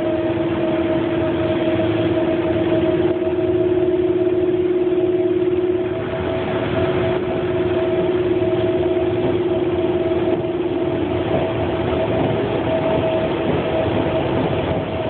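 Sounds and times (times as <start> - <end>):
constant hum: 0.0 - 15.0
train rumbling: 0.0 - 15.0.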